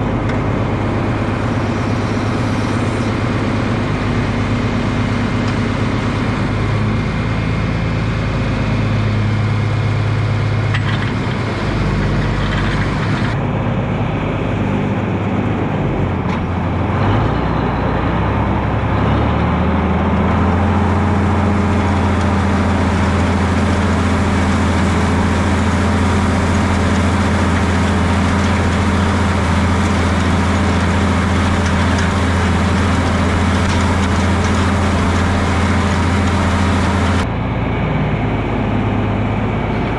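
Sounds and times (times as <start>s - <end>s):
tractor engine running: 0.0s - 37.5s.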